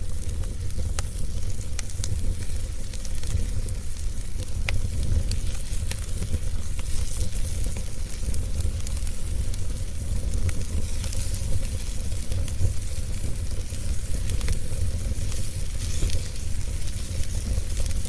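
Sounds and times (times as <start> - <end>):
fire hissing: 0.0 - 18.0
fire pops and snaps: 0.0 - 18.0
low rumble of flames: 0.0 - 18.0.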